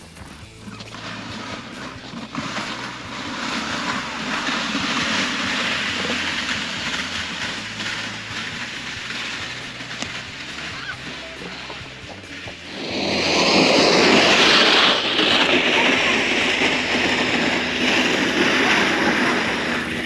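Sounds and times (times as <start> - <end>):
wind rushing over microphone: 1.0 - 20.0.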